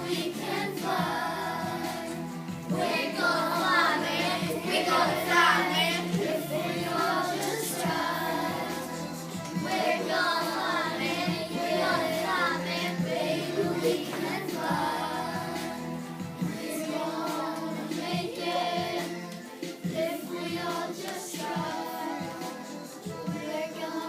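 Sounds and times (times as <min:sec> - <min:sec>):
children singing together: 0:00.0 - 0:24.0
recorded backing music: 0:00.0 - 0:24.0.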